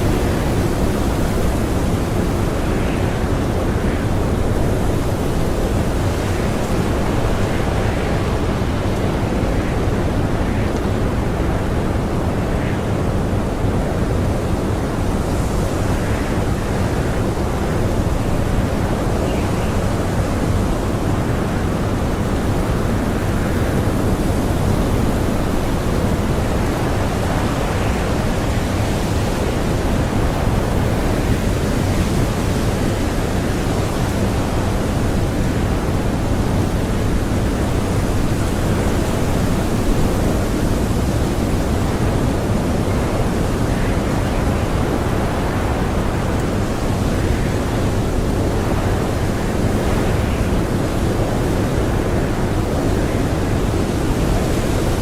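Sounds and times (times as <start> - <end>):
blizzard wind blowing: 0.0 - 55.0.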